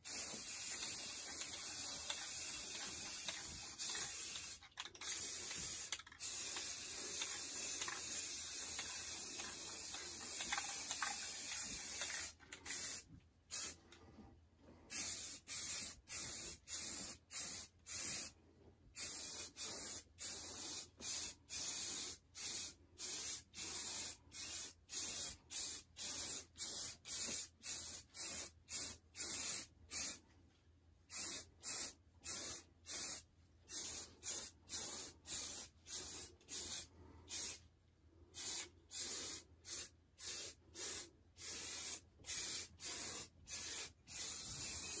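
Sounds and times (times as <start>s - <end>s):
spray can hissing: 0.0s - 13.8s, 14.9s - 18.3s, 19.0s - 30.2s, 31.1s - 37.6s, 38.4s - 45.0s.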